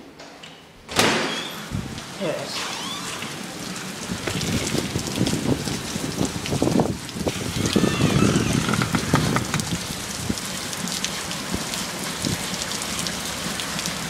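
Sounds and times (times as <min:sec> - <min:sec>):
steady rain falling: 0:01.3 - 0:14.0.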